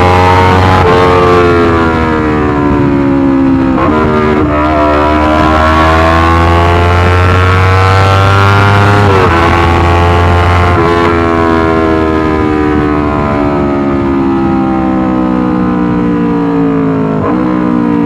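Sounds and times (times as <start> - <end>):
motorcycle engine with loud exhaust: 0.0 - 18.0.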